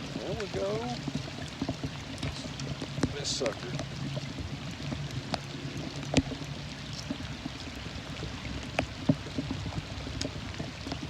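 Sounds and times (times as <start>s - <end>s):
drops ticking: 0.0s - 11.0s
steady rain: 0.0s - 11.0s.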